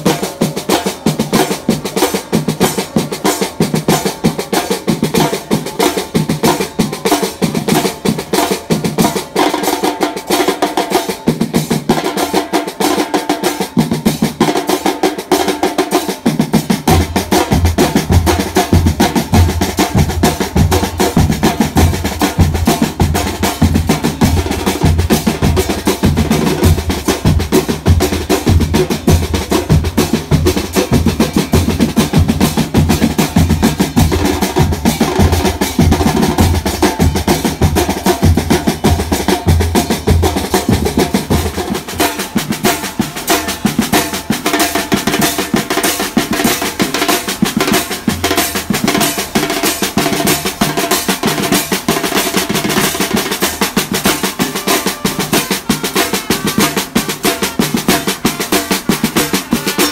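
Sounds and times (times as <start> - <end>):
snare drums playing rolls: 7.3 - 59.9.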